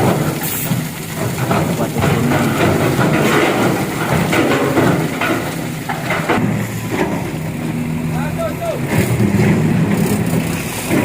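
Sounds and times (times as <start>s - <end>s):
rocks tumbling and clattering: 0.0s - 11.0s
truck engine running: 0.0s - 11.0s.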